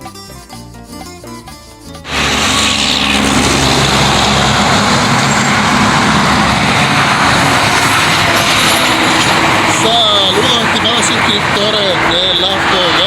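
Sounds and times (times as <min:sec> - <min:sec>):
motor vehicle running close by: 0:02.0 - 0:13.0.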